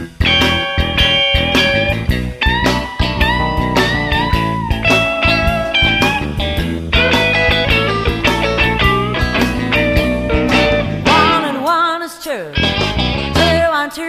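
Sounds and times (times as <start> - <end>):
steady drum beat: 0.0 - 11.5
bass guitar: 0.0 - 11.7, 12.6 - 13.7
lead guitar solo: 0.0 - 13.6.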